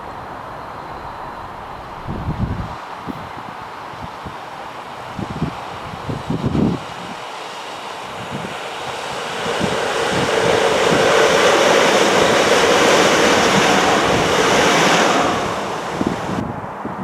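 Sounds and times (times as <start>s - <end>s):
train wheels on rails: 0.0s - 16.8s
wind buffeting microphone: 0.2s - 17.0s.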